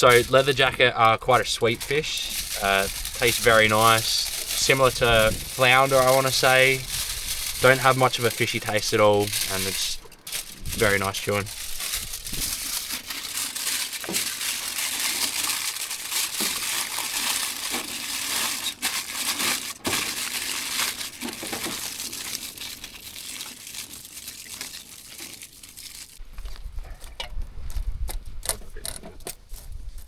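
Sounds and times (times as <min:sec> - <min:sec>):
aluminium foil crinkling: 0:00.0 - 0:26.6.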